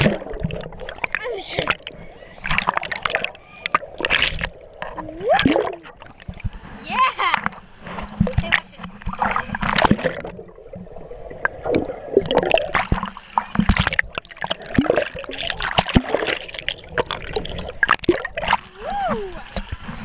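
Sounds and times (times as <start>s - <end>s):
water rushing and splashing: 0.0s - 20.0s.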